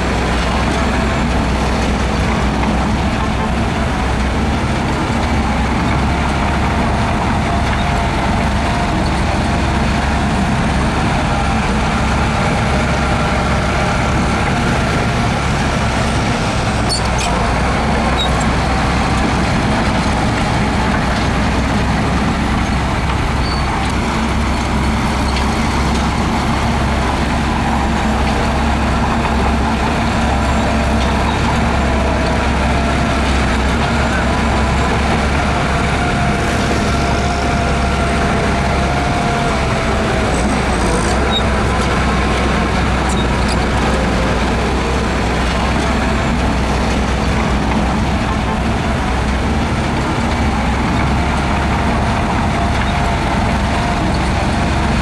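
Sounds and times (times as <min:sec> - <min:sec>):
diesel machinery running under load: 0:00.0 - 0:55.0.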